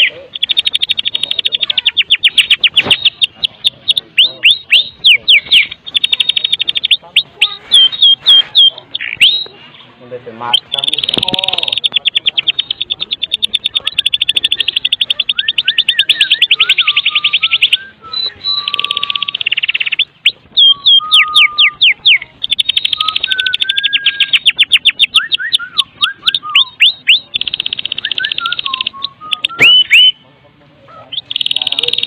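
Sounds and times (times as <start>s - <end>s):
bird whistles: 0.0s - 9.6s, 10.5s - 30.2s.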